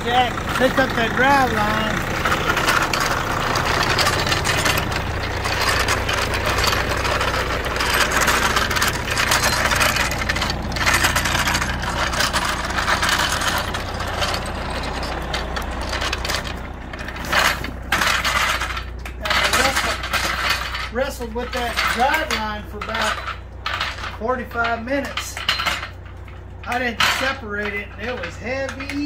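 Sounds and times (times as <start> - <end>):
jack wheels crunching on gravel: 0.0 - 29.0
steady low hum: 0.0 - 29.0.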